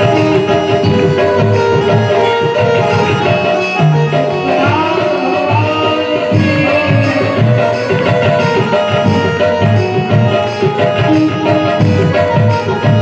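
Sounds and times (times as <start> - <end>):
gliding melody line: 0.0 - 13.0
held melodic notes: 0.0 - 13.0
tabla drumming: 0.0 - 13.0.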